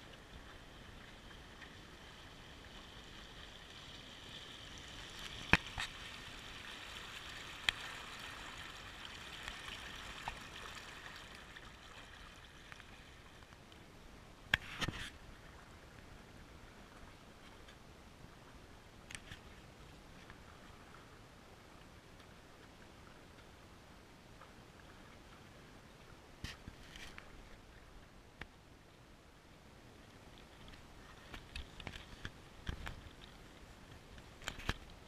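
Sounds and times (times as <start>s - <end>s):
water rushing along a hull: 0.0s - 35.0s.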